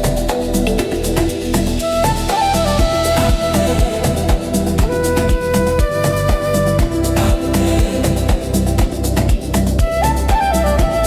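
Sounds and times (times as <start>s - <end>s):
heavy bass: 0.0s - 11.0s
steady drum beat: 0.0s - 11.0s.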